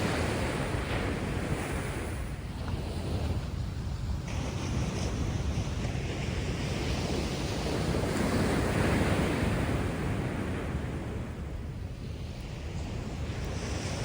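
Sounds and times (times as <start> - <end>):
wave breaking and washing in: 0.0 - 14.0.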